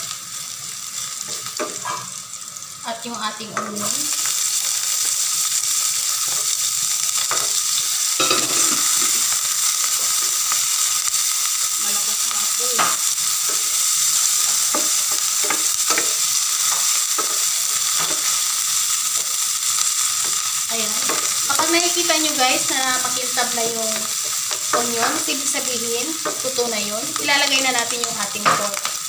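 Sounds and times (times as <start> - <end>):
onion and garlic sizzling in fat: 0.0 - 29.0.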